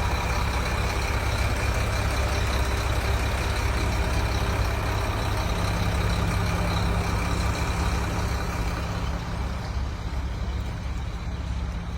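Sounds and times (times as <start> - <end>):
heavy engine rumbling: 0.0 - 11.9.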